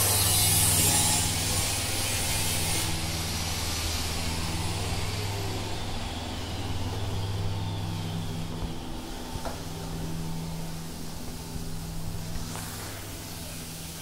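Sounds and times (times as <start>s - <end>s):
high hiss: 0.0s - 14.0s
low machine hum: 0.0s - 14.0s.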